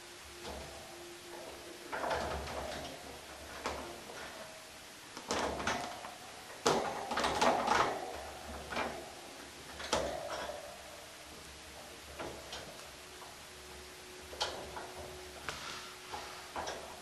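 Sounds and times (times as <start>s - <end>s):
wire cage rattling and clinking: 0.3s - 15.4s, 16.0s - 17.0s.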